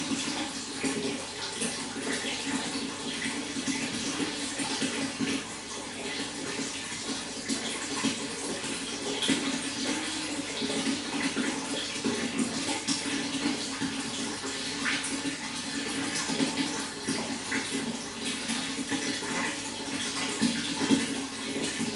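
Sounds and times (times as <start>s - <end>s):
running water splashing: 0.0s - 21.9s.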